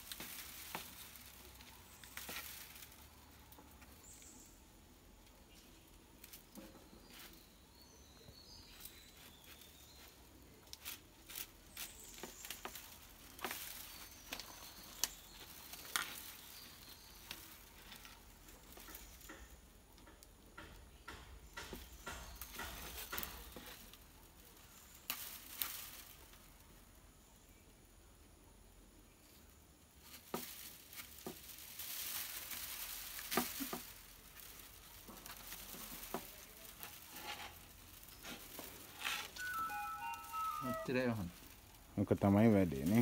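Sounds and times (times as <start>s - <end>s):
rustling and clicking of sticks: 0.0s - 27.0s, 29.2s - 43.0s.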